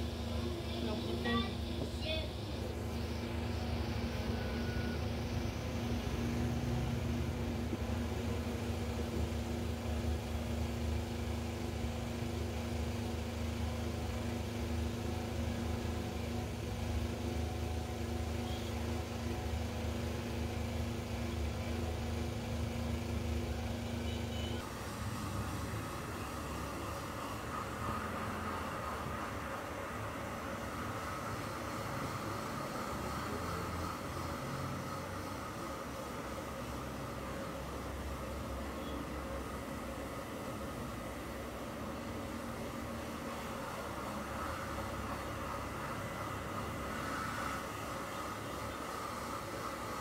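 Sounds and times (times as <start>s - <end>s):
steady whir: 0.0s - 50.0s.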